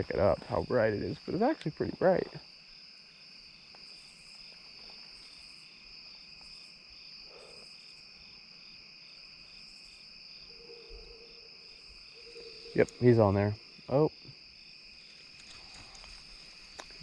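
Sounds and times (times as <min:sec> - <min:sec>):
crickets trilling: 0:00.0 - 0:17.0
pulsing insect chirp: 0:00.0 - 0:17.0.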